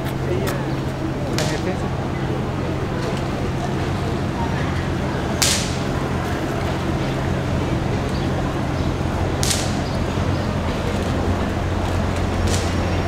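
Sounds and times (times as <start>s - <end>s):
city street traffic hum: 0.0s - 13.0s.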